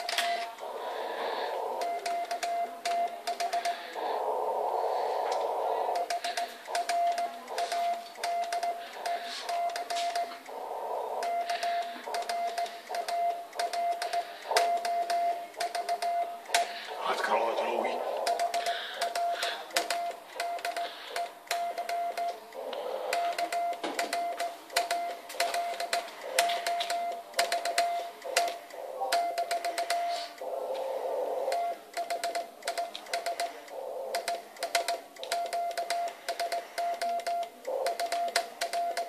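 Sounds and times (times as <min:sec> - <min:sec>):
morse code beeps: 0:00.0 - 0:39.0.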